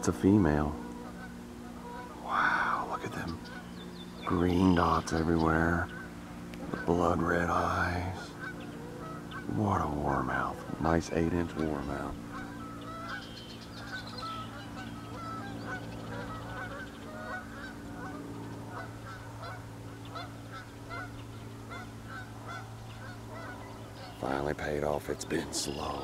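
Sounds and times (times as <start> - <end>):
birds calling: 0.0 - 26.0
steady low drone: 0.0 - 26.0.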